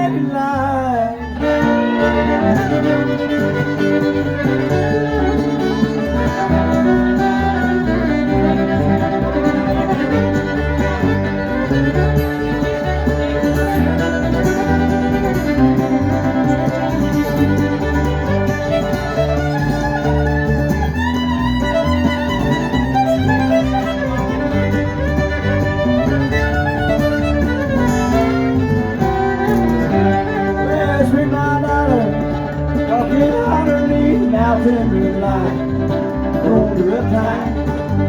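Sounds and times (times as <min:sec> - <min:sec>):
fiddle playing lead: 0:00.0 - 0:38.0
steady bass line: 0:00.0 - 0:38.0
strummed rhythm: 0:00.0 - 0:38.0.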